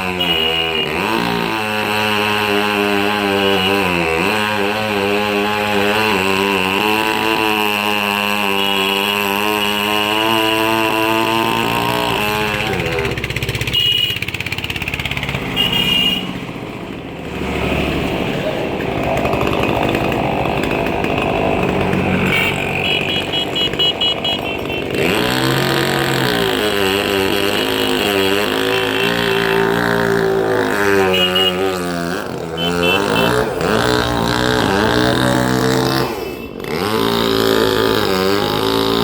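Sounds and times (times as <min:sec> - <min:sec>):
chainsaw cutting: 0:00.0 - 0:39.0.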